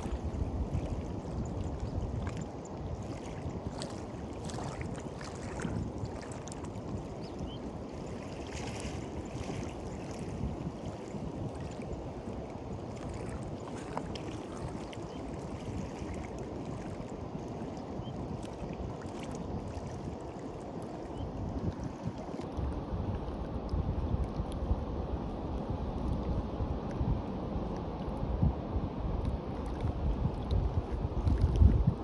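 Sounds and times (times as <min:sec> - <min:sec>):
small waves washing onto beach: 0:00.0 - 0:32.0
wind rumble on microphone: 0:00.0 - 0:32.0.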